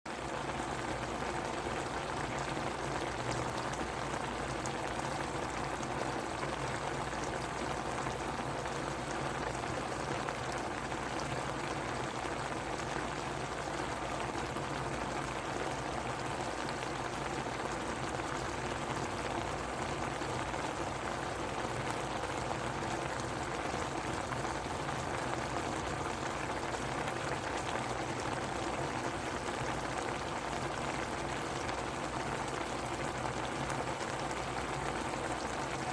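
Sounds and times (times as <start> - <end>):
stew boiling and bubbling: 0.1 - 35.9.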